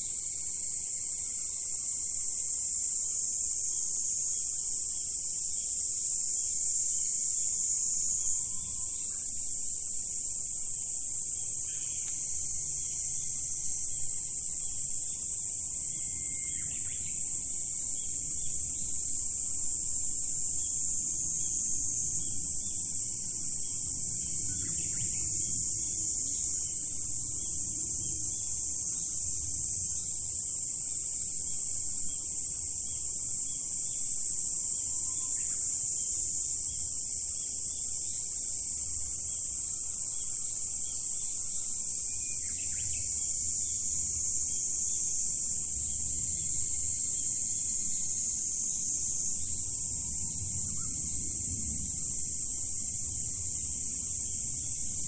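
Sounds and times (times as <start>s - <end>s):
insects singing in chorus: 0.0s - 55.0s.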